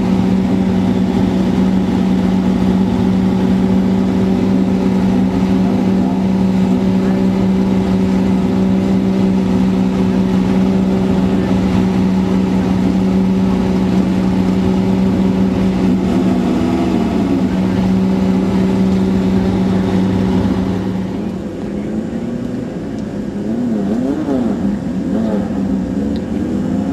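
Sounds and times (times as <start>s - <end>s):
engine running steadily: 0.0s - 26.9s
second engine rising and falling: 0.0s - 26.9s.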